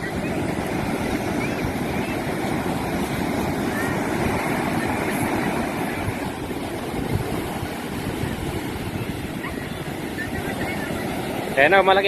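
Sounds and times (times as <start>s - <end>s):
ocean waves rushing: 0.0s - 12.0s
wind buffeting microphone: 0.0s - 12.0s.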